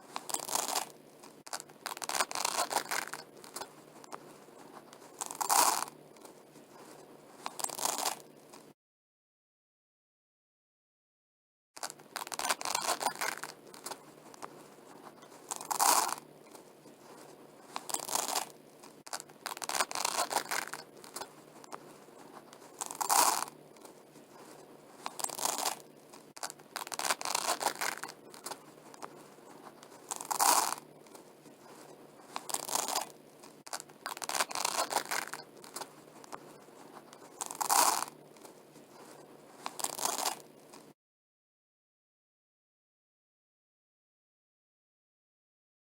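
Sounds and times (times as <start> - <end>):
velcro strips ripping apart: 0.0 - 8.7, 11.8 - 40.9.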